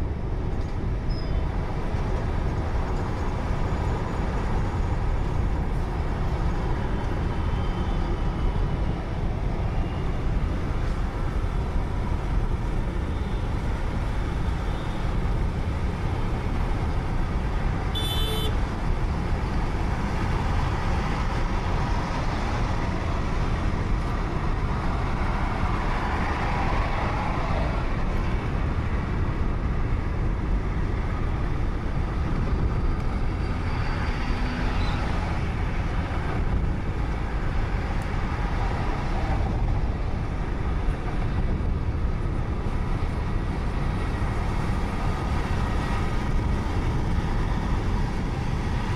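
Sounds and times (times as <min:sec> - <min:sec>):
car road noise: 0:00.0 - 0:48.9.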